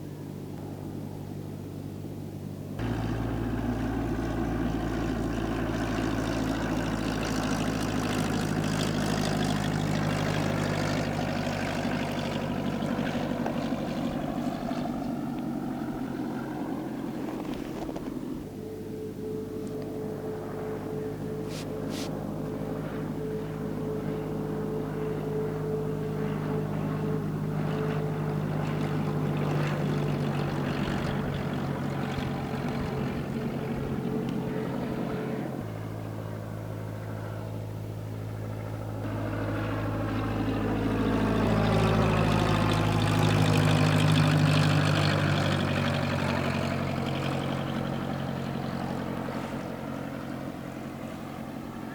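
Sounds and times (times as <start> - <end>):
propeller plane droning: 0.0 - 51.9.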